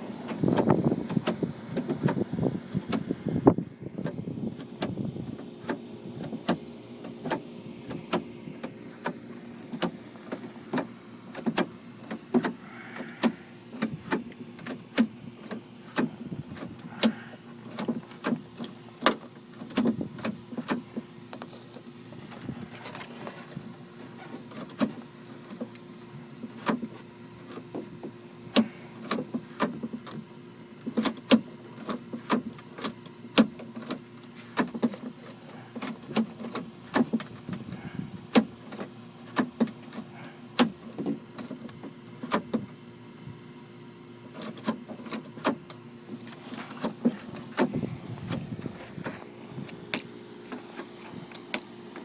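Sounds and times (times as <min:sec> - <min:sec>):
steady low hum: 0:00.0 - 0:52.0
clicks and knocks of door parts: 0:00.3 - 0:02.2, 0:04.0 - 0:21.5, 0:24.3 - 0:25.7, 0:26.4 - 0:30.2, 0:30.8 - 0:42.7, 0:44.3 - 0:52.0.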